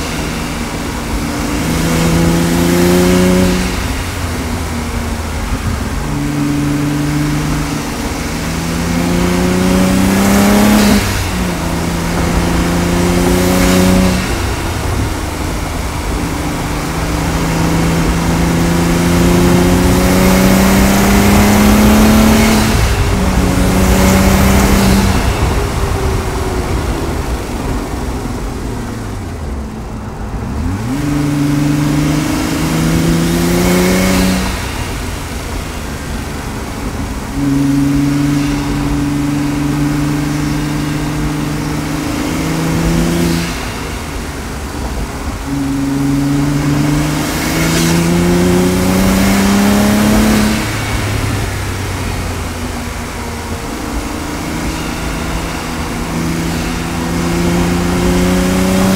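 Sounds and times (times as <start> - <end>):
car engine accelerating through gears: 0.0 - 58.9.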